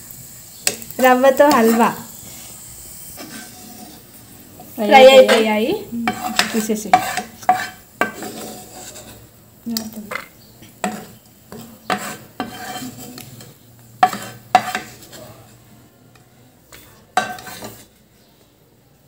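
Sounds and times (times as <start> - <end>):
ghee sizzling: 0.0 - 19.0
spatula scraping frying pan: 0.5 - 18.1.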